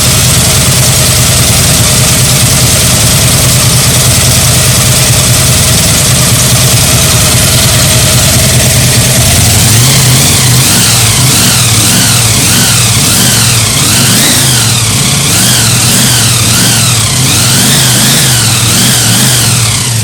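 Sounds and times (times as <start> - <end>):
car engine revving: 0.0 - 20.0
supercharger whine: 0.0 - 20.0.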